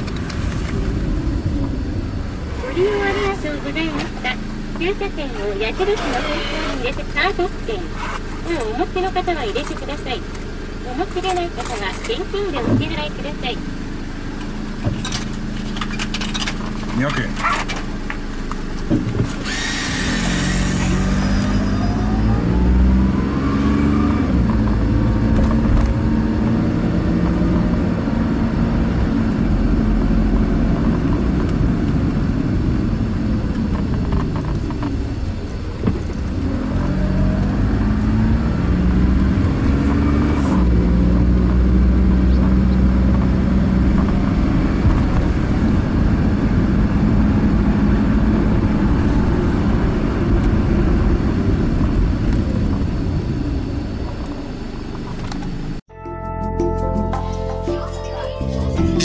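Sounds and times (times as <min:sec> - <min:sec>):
car engine accelerating through gears: 0:00.0 - 0:13.3, 0:14.0 - 0:55.8.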